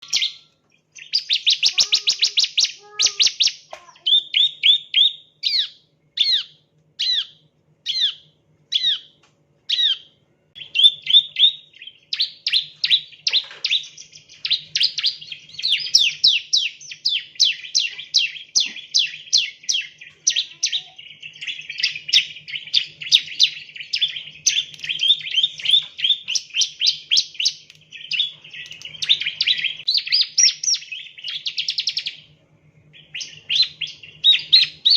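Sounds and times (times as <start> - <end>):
bird chirping and trilling: 0.0 - 34.9.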